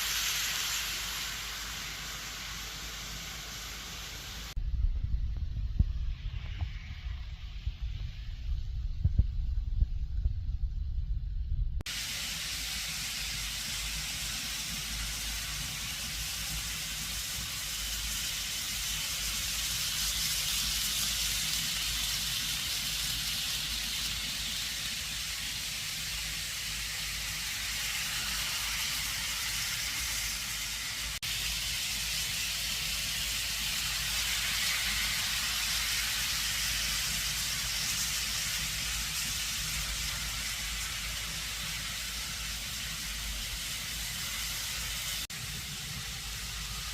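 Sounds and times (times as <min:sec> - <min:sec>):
model trains running on track: 0:00.0 - 0:04.5, 0:11.9 - 0:46.9.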